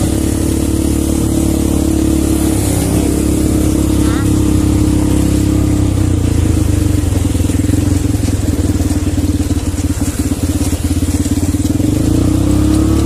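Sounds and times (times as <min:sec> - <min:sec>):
quad bike engines running: 0:00.0 - 0:13.0.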